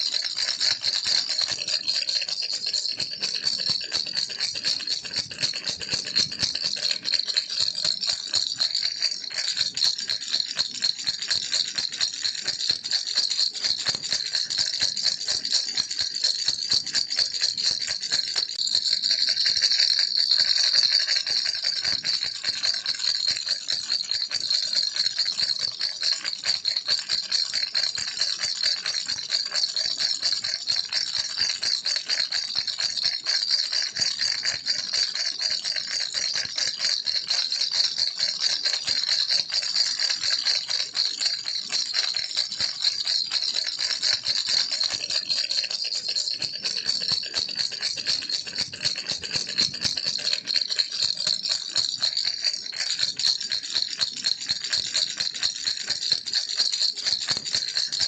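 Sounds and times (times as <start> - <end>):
baby rattle shaken: 0.0 - 30.4, 31.0 - 58.0.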